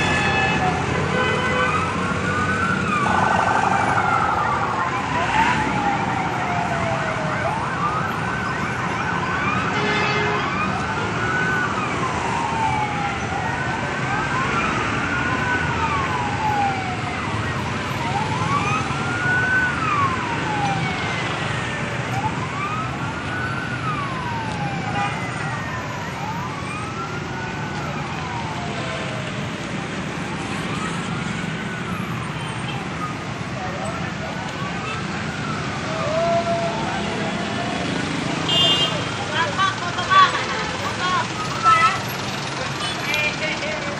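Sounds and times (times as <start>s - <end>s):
siren wailing: 0.0s - 38.7s
heavy traffic engines: 0.0s - 43.9s.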